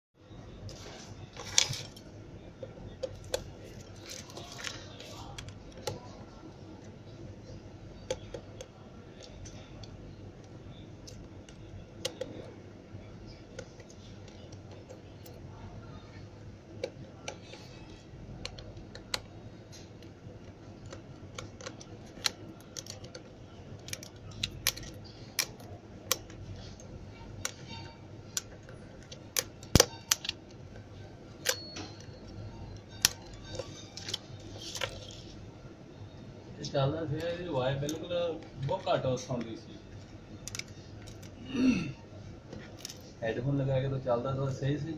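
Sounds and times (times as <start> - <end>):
steady low hum: 0.2 - 44.9.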